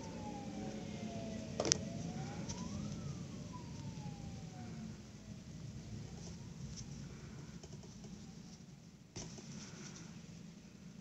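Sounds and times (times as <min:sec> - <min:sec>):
faint siren wailing: 0:00.0 - 0:09.0
low steady hum: 0:00.0 - 0:11.0.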